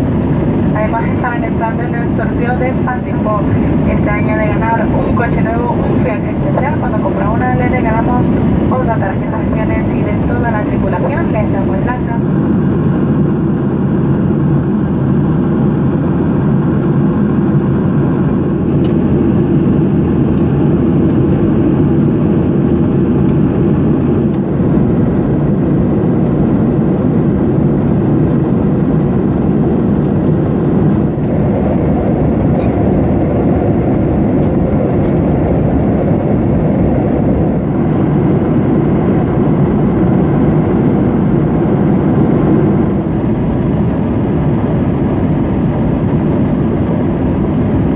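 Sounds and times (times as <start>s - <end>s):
airplane cabin engine noise: 0.0s - 47.9s.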